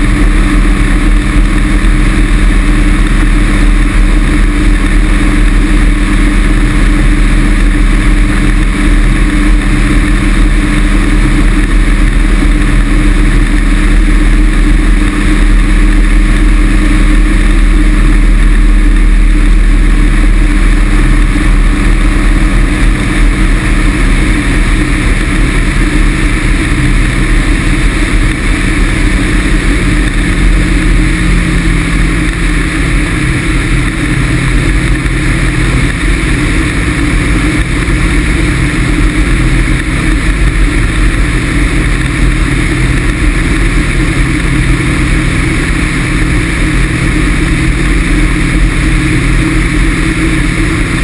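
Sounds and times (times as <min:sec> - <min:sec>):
microlight engine droning: 0:00.0 - 0:51.0.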